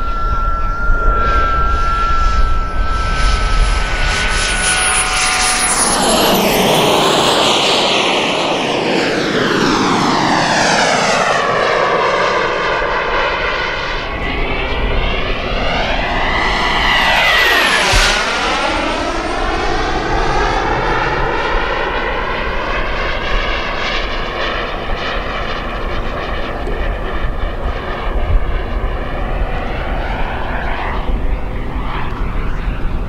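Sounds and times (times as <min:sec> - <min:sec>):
jet turbine whine and roar: 0:00.0 - 0:33.0.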